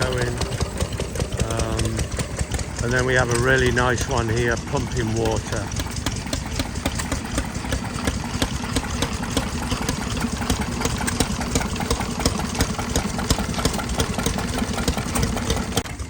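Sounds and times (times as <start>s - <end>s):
mechanical clatter: 0.0s - 16.0s
stationary engine running: 0.0s - 16.0s.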